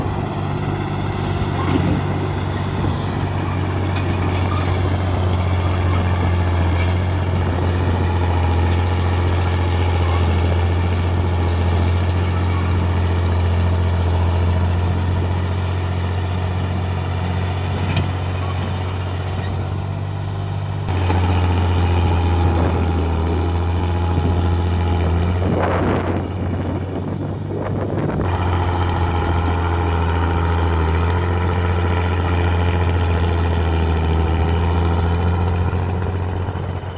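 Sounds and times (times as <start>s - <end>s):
diesel tractor engine running: 0.0s - 36.9s.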